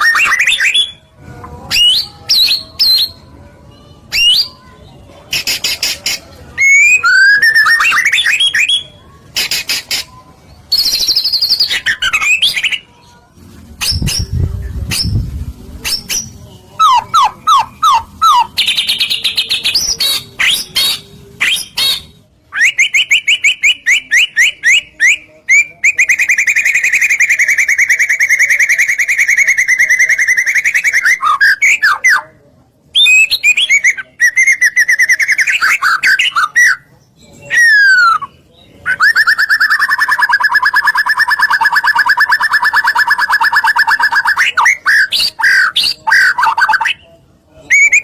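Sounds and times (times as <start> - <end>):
songbird singing with fast trills: 0.0 - 1.1, 1.7 - 12.9, 13.8 - 32.2, 32.9 - 48.0.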